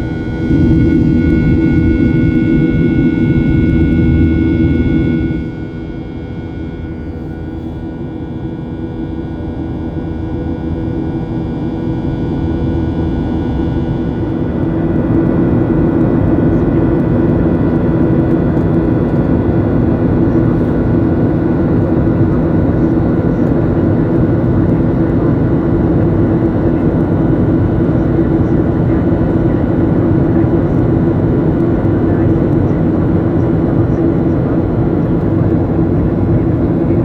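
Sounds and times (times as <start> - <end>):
jet engines droning in cabin: 0.0 - 37.0.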